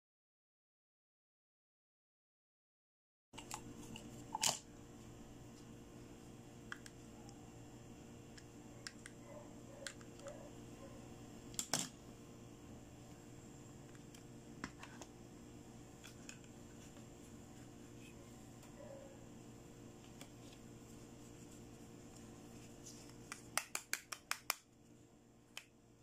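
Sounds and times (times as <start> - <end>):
faint steady hum: 3.4 - 26.0.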